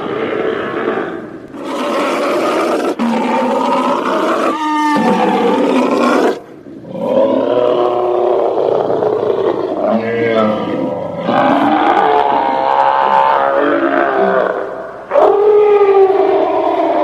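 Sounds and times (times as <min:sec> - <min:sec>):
monster growling roars: 0:00.0 - 0:17.0.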